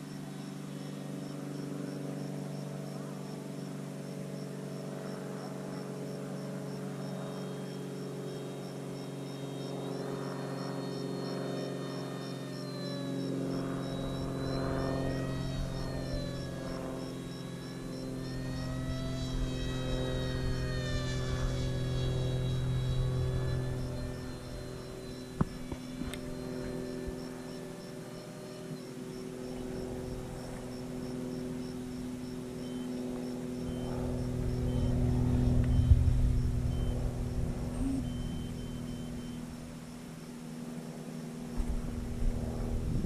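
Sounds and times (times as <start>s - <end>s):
model plane motor whining: 0.0s - 43.0s
steady low hum: 0.0s - 43.0s.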